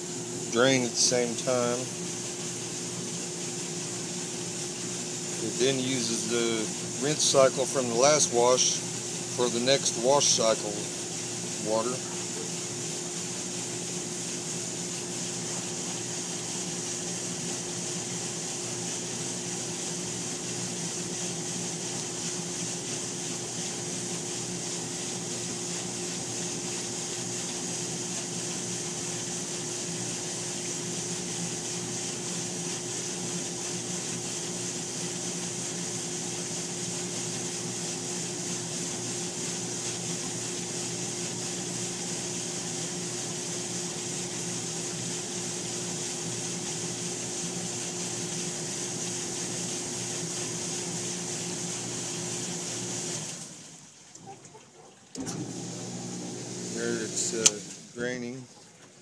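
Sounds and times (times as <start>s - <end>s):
dishwasher running: 0.0s - 59.0s.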